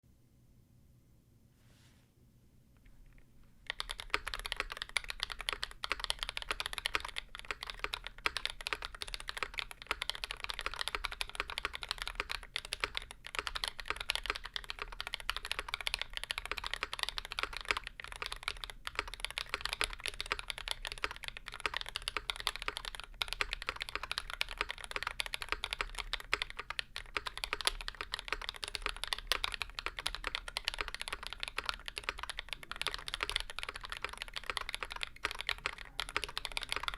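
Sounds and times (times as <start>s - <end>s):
fast mechanical keyboard typing: 3.1s - 36.9s.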